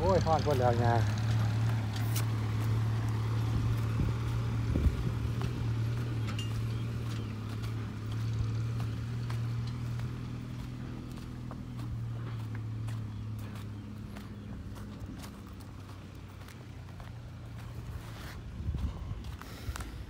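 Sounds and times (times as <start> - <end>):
diesel engine humming: 0.0 - 20.0
footsteps on dry dirt: 0.0 - 20.0.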